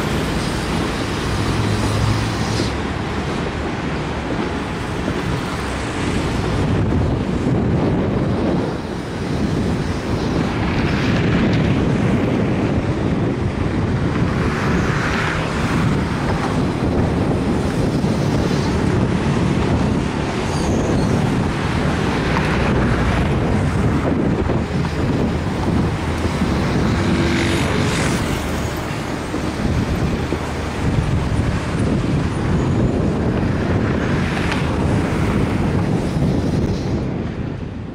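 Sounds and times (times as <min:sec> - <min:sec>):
train wheels rumbling on rails: 0:00.0 - 0:37.9
wind buffeting microphone: 0:00.0 - 0:37.9.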